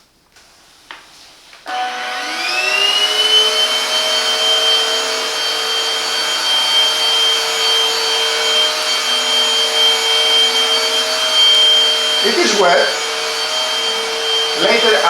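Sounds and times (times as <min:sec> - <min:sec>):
vacuum motor whining: 0:01.6 - 0:15.0.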